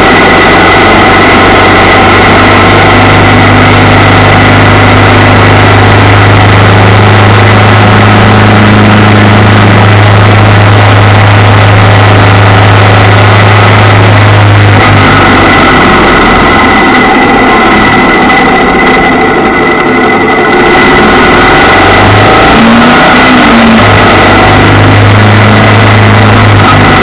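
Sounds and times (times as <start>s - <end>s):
motorcycle engine running: 0.0s - 27.0s
wind and road rush: 0.0s - 27.0s.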